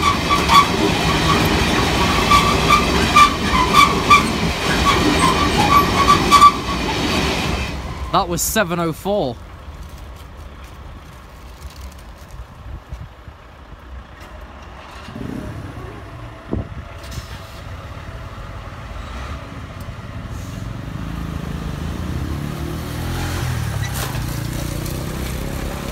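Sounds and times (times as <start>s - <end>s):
road vehicle engines: 0.0s - 25.9s.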